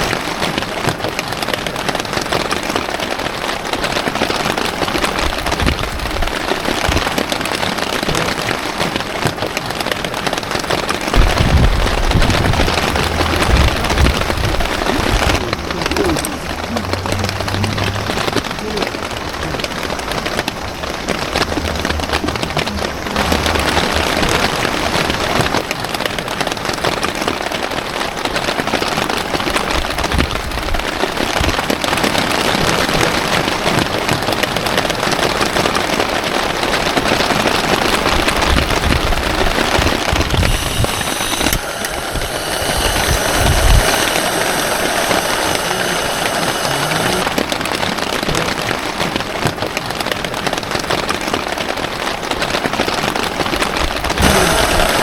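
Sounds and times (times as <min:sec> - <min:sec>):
wind gusts buffeting microphone: 0:00.0 - 0:27.9, 0:28.9 - 0:48.3
heavy rain on a tent: 0:00.0 - 0:55.0.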